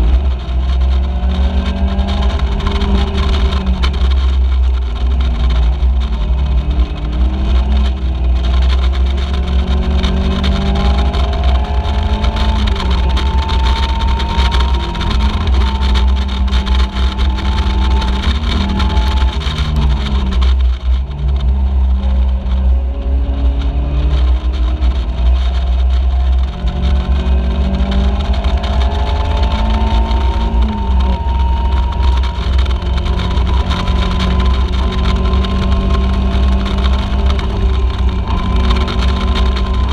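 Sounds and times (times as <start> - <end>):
race car engine accelerating: 0.0 - 39.9
wind rumble on microphone: 0.0 - 39.9.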